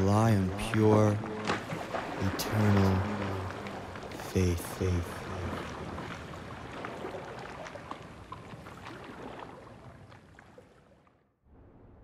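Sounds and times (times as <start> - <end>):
small waves lapping on beach: 0.0 - 11.2.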